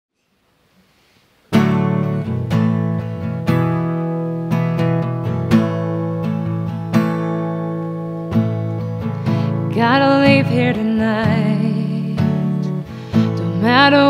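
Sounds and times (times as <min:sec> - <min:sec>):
acoustic guitar strumming: 0:01.5 - 0:14.0.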